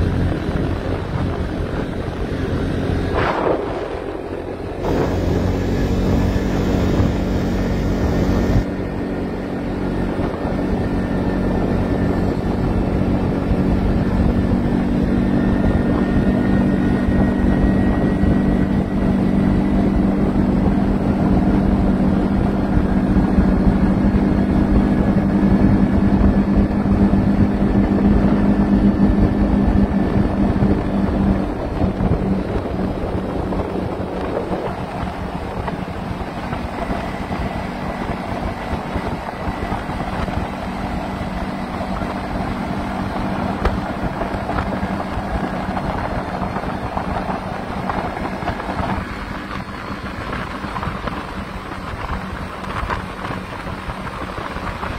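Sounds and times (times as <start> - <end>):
air rushing over microphone: 0.0 - 54.9
engine drone: 0.0 - 54.9.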